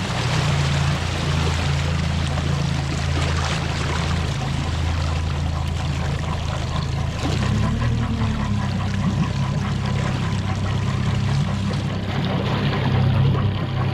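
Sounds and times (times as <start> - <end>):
outboard motor droning: 0.0 - 13.9
water splashing and trickling: 0.0 - 13.9.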